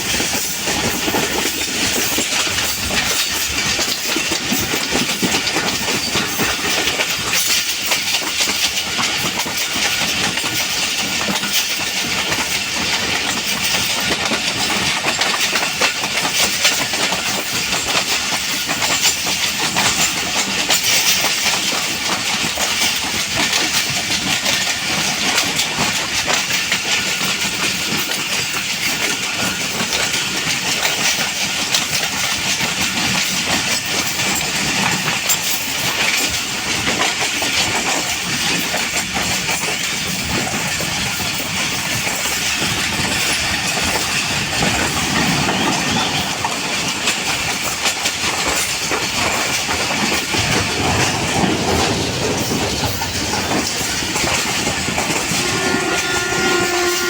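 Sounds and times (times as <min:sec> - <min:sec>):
train rumbling on track: 0:00.0 - 0:57.0
wheels clattering over rails: 0:00.0 - 0:57.0.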